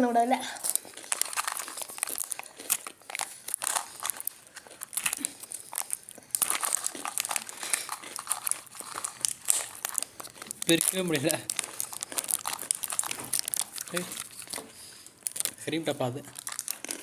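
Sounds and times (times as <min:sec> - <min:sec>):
plastic wrapping crinkling: 0:00.4 - 0:17.0.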